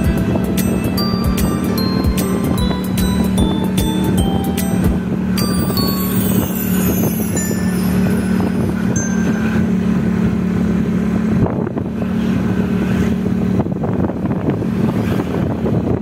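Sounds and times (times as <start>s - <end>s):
vehicle engine drone: 0.0s - 16.0s
wind noise on microphone: 0.0s - 16.0s.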